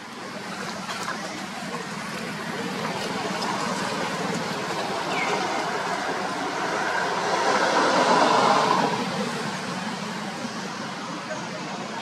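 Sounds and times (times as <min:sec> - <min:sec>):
vehicle passing: 0:00.5 - 0:11.4.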